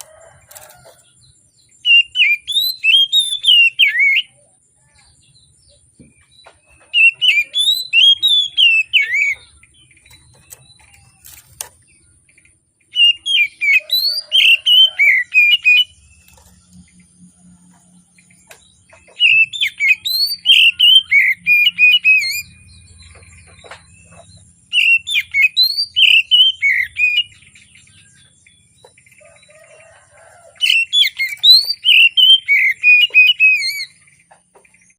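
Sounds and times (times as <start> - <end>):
magpie-robin singing: 1.7 - 4.4, 6.2 - 16.5, 18.2 - 34.9.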